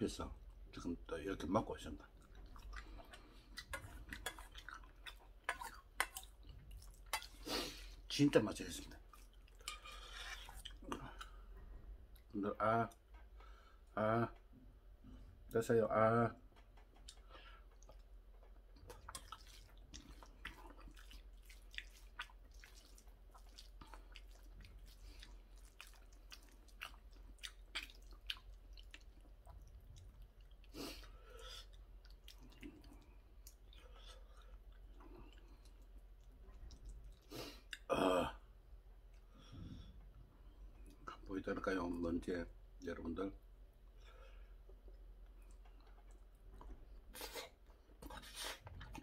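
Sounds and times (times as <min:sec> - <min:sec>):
man chewing food: 0:02.0 - 0:08.1, 0:08.8 - 0:13.9, 0:16.5 - 0:37.9, 0:38.7 - 0:41.3, 0:43.6 - 0:49.0.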